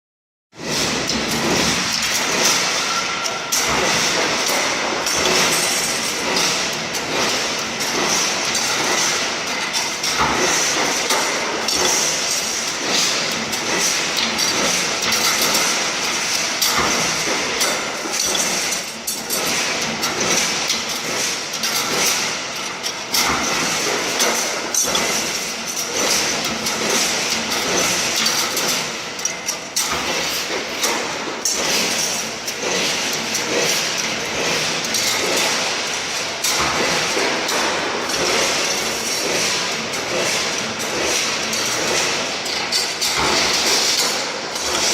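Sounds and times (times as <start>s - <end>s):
wire bending machine clatter: 0.6s - 44.9s.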